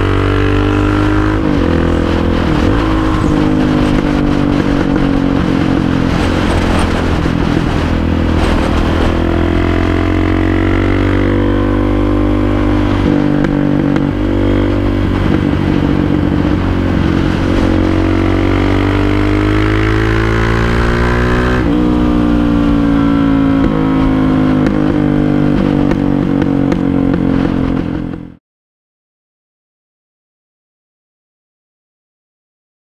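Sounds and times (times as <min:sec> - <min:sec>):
motorcycle engine running: 0:00.0 - 0:28.4.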